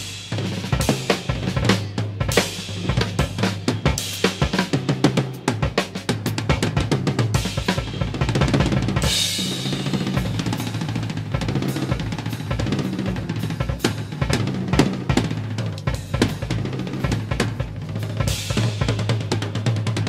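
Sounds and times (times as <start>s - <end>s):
drum kit playing: 0.0s - 20.0s.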